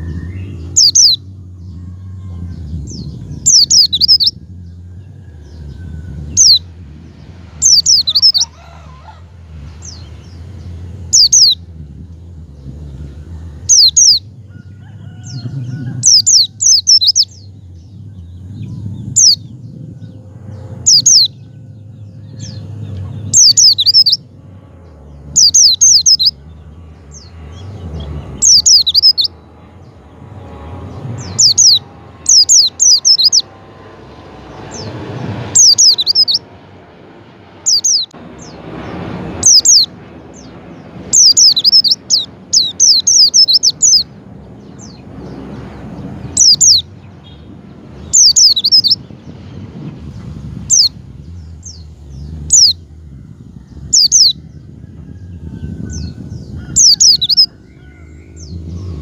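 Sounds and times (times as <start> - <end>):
bird chirping: 0.0 - 36.7, 37.5 - 54.8, 55.5 - 59.0.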